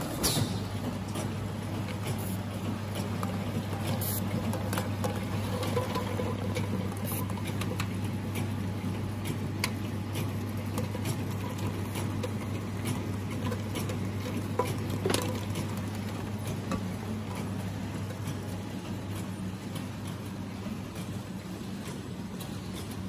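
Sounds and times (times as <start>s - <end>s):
conveyor humming: 0.0s - 23.0s.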